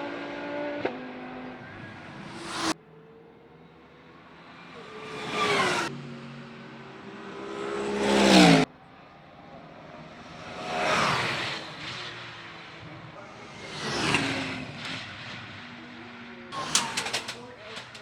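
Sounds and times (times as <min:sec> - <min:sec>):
race cars passing by: 0:00.0 - 0:18.0.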